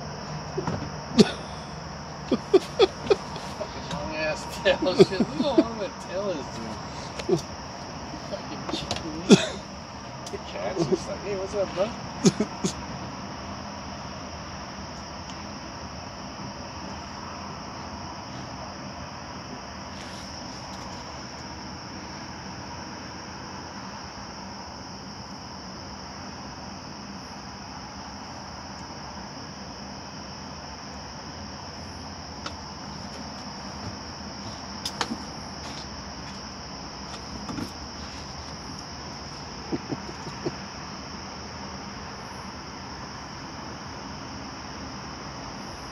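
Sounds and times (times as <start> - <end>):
crickets chirping chorus: 0.0 - 45.9.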